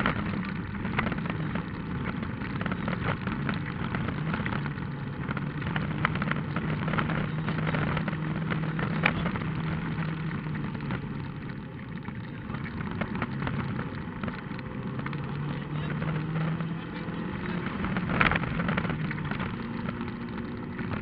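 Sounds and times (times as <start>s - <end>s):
car engine running: 0.0s - 21.0s
stones clicking against car: 0.0s - 21.0s.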